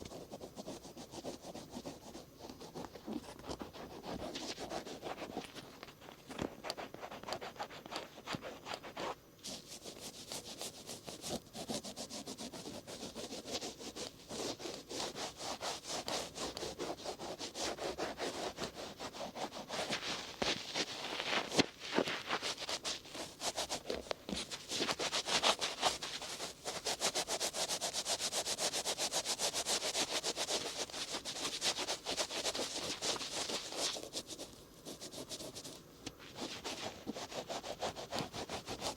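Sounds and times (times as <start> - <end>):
cotton swabs scratching ear: 6.5 - 35.8, 36.4 - 38.9.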